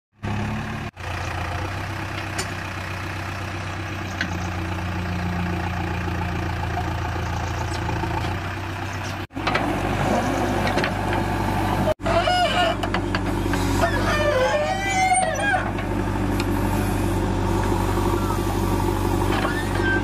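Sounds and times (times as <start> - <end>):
diesel engine running: 0.2 - 20.0.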